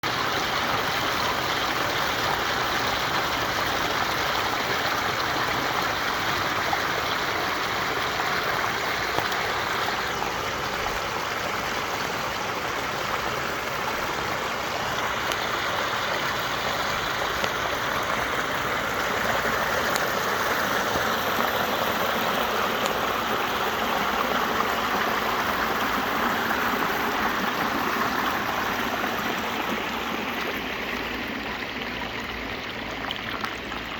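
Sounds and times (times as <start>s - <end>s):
waterfall stream running: 0.0s - 33.9s.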